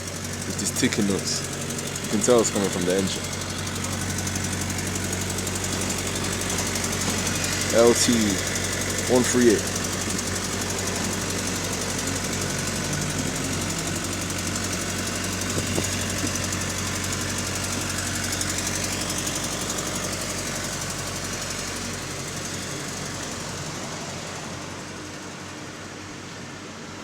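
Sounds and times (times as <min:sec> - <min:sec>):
bus diesel engine ticking: 0:00.0 - 0:27.0
engine knock: 0:00.0 - 0:27.0.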